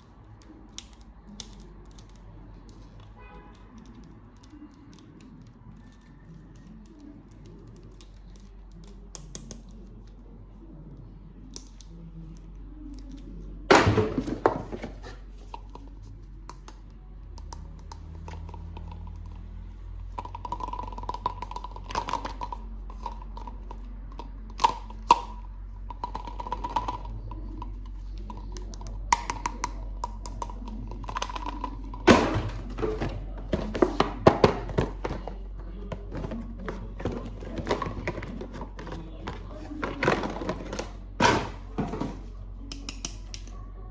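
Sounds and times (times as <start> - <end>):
plastic toys clicking and tapping: 0.0 - 10.2, 10.9 - 43.6.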